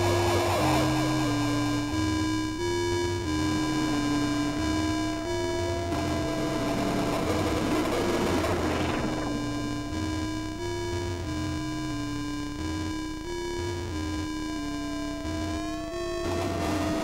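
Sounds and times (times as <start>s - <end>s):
buzzy electronic tone alternating: 0.0s - 17.0s
low electronic drone: 0.0s - 17.0s.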